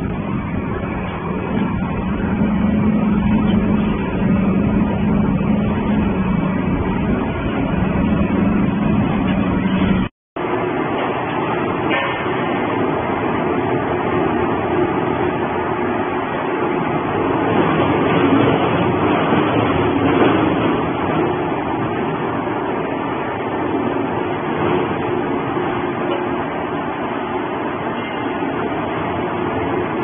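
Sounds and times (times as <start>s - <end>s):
industrial shredder running: 0.0s - 26.2s.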